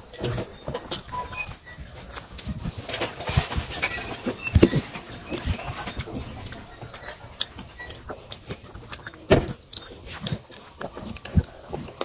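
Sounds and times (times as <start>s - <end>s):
chewing and lip-smacking: 0.1s - 12.0s.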